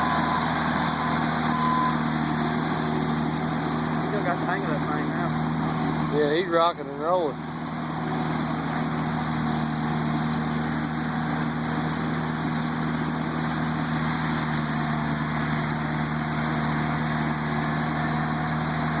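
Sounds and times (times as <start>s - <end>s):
engine and hydraulic drone: 0.0s - 19.0s.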